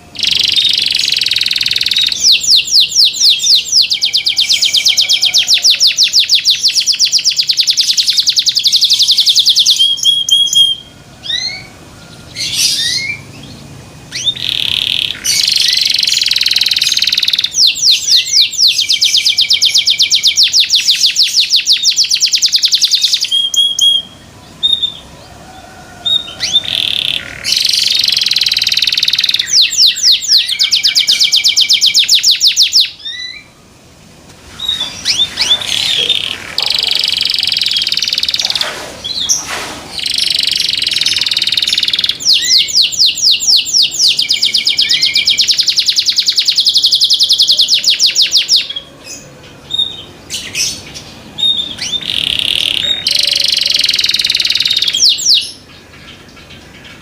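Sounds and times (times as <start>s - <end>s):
canary singing: 0.0s - 33.8s, 34.4s - 57.0s.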